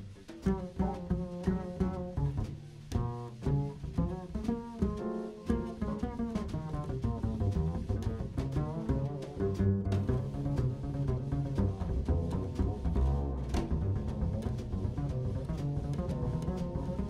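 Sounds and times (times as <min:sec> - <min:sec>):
double bass plucked: 0:00.0 - 0:17.0
light cymbal and drum strokes: 0:00.0 - 0:17.0.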